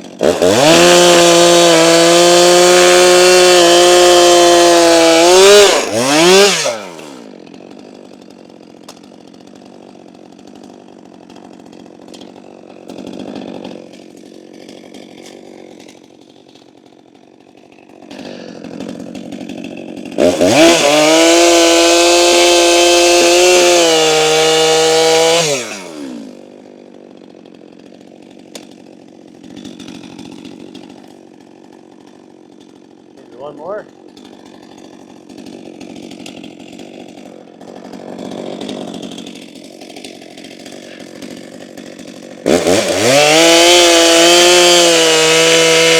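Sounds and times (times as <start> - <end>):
chainsaw cutting a log: 0.0 - 45.9
chainsaw idling: 0.0 - 45.9.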